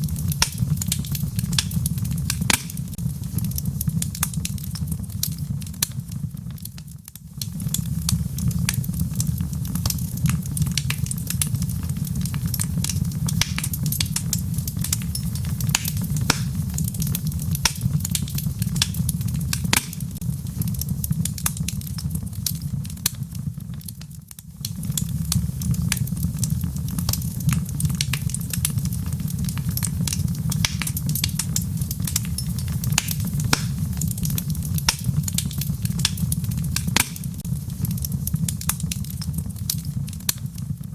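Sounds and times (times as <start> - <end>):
fire roaring: 0.0 - 40.9
wood crackling and popping: 0.0 - 40.9.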